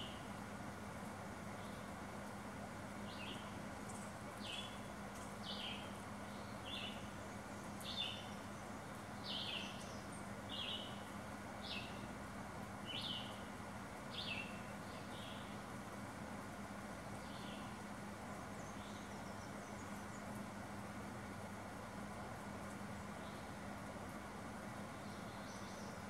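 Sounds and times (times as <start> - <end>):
faint background hiss and hum: 0.0 - 26.0.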